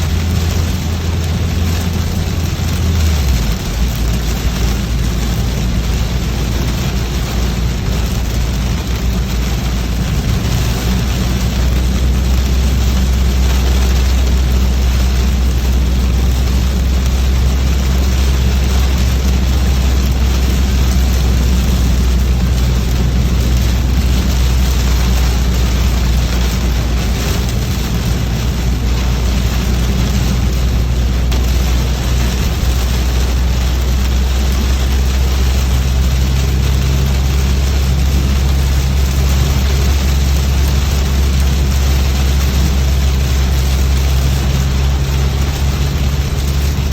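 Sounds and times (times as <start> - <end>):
car engine and road rumble: 0.0 - 46.9
rain and tyre spray hiss: 0.0 - 46.9.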